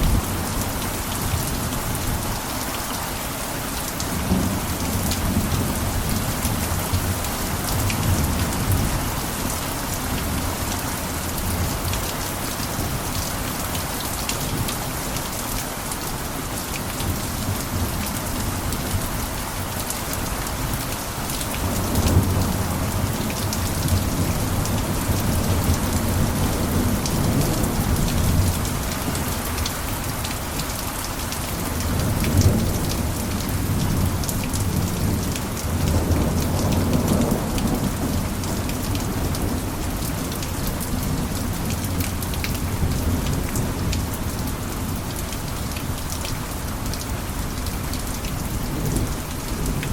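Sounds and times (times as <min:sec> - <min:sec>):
rain on a roof: 0:00.0 - 0:49.9.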